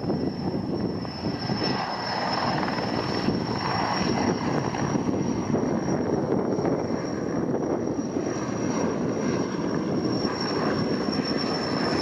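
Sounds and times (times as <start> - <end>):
helicopter rotor and engine drone: 0.0 - 12.0
thin high whine: 0.0 - 12.0.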